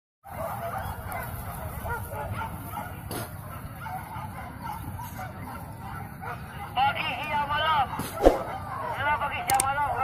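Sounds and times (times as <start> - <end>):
dogs barking and yelping: 0.2 - 10.0.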